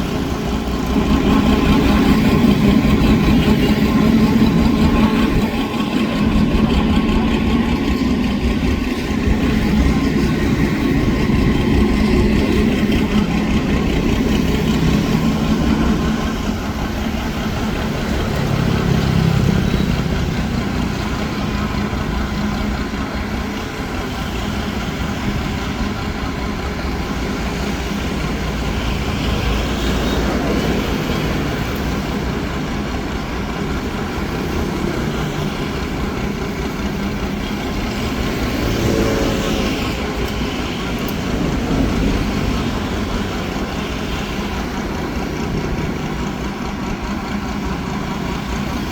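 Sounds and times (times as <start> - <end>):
boat engine humming: 0.0 - 48.9.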